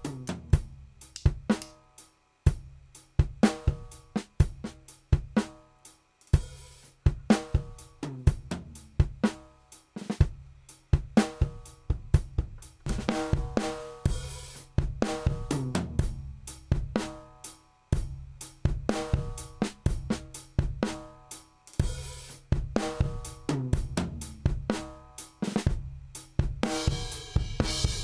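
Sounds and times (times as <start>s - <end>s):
drum kit playing a groove: 0.0s - 28.0s.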